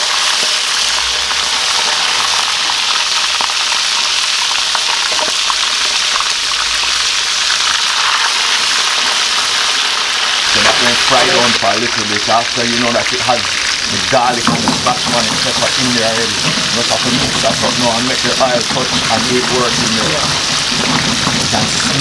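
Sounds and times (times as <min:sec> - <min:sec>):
lobsters deep-frying in oil: 0:00.0 - 0:22.0.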